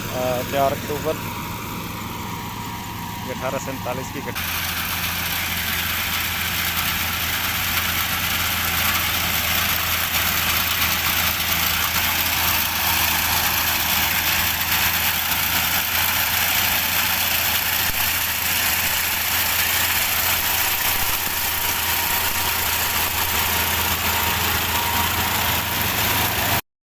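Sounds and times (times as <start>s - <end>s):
harvester engine drone: 0.0s - 26.6s.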